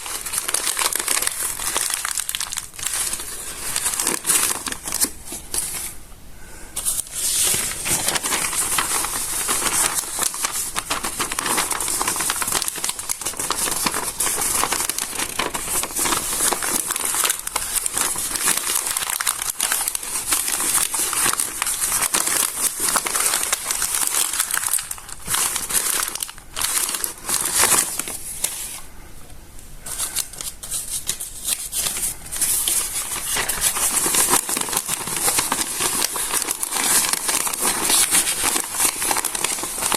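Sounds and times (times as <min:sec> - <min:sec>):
stiff paper pages crinkling: 0:00.0 - 0:06.0, 0:06.8 - 0:28.9, 0:29.8 - 0:39.9.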